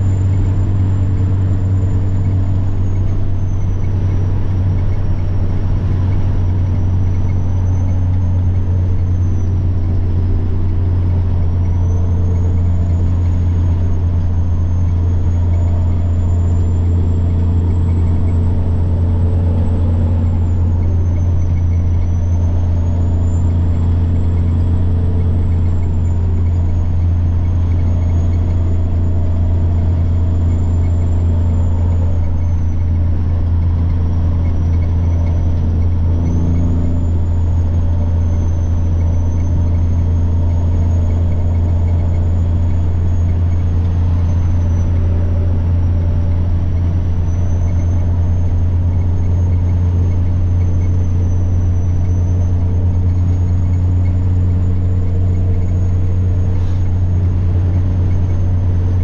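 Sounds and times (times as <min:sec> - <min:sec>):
truck diesel engine drone: 0:00.0 - 0:59.0
turbocharger whine: 0:00.0 - 0:59.0.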